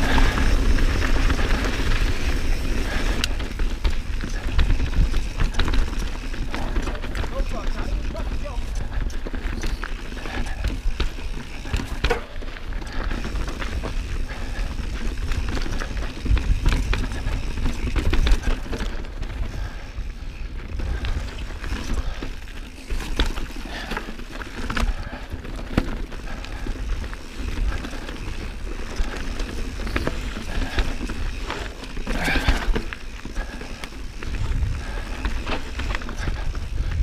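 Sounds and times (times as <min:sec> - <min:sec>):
bike clicking and rattling: 0:00.0 - 0:37.0
bike tyres on loose dirt: 0:00.0 - 0:37.0.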